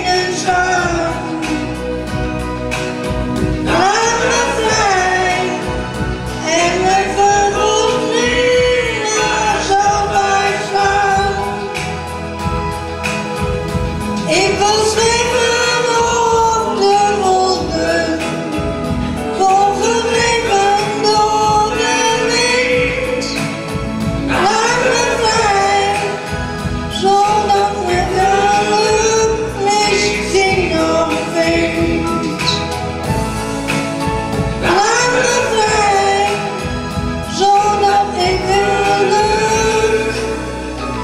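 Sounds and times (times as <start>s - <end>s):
woman singing into microphone: 0.0s - 2.2s, 3.6s - 12.0s, 14.2s - 23.6s, 24.3s - 32.8s, 34.6s - 41.0s
instrumental accompaniment: 0.0s - 41.0s.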